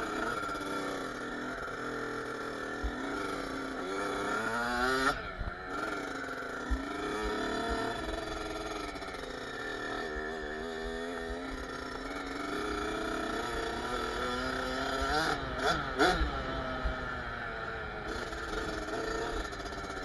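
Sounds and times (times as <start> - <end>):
two-stroke motorbike engine revving: 0.0 - 20.0.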